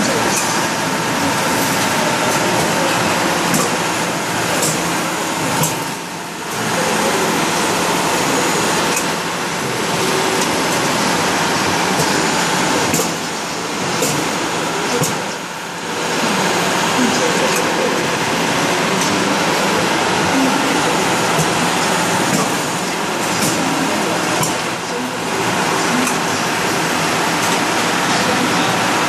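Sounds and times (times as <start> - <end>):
busy exhibition hall din: 0.0 - 29.0.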